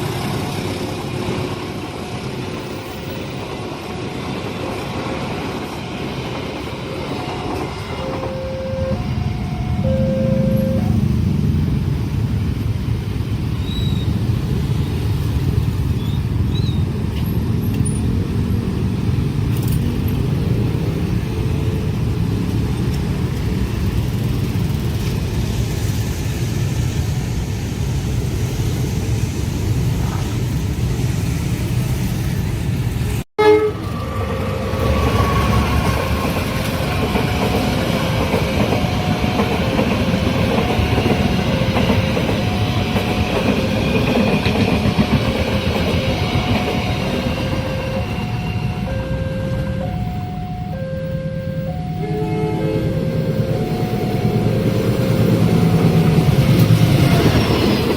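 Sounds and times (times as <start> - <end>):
train rumbling on rails: 0.0 - 57.9.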